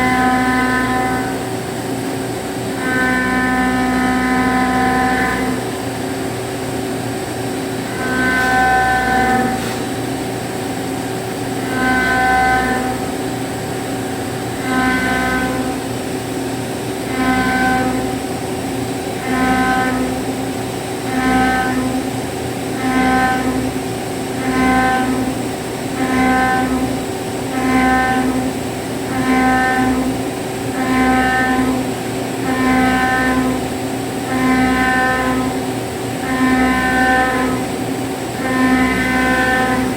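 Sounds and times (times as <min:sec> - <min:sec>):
machining hum: 0:00.0 - 0:39.9
milling cutter ringing whine: 0:00.0 - 0:39.9.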